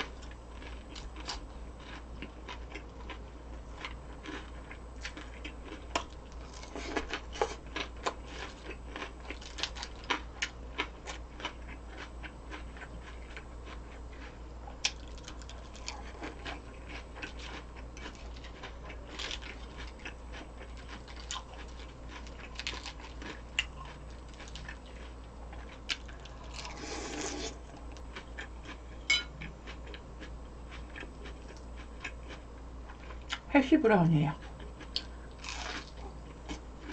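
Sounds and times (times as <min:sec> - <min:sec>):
person chewing crunchy food: 0:00.0 - 0:33.5, 0:34.4 - 0:36.9
low hum: 0:00.0 - 0:36.9.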